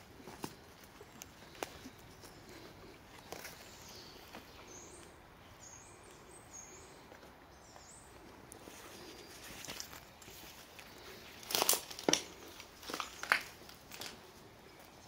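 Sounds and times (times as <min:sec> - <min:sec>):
faint footsteps: 0:00.0 - 0:15.0.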